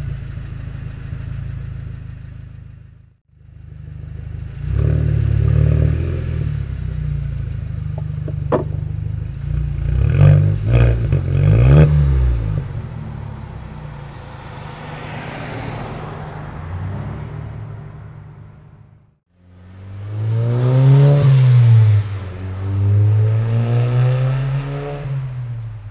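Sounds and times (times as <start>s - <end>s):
car exhaust revving: 0.0s - 25.9s.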